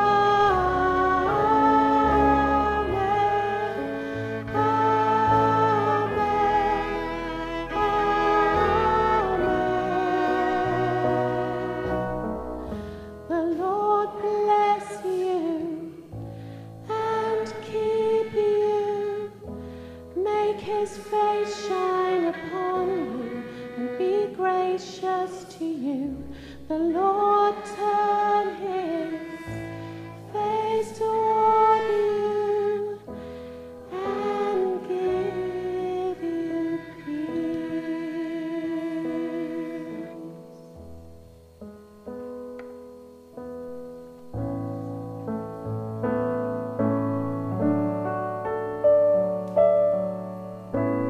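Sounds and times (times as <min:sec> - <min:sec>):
slow song with singing: 0:00.0 - 0:41.7.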